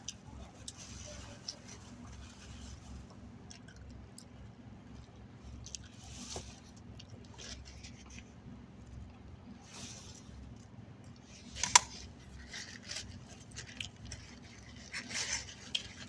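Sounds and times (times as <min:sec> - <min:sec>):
person chewing food: 0:00.0 - 0:09.3, 0:10.1 - 0:16.0.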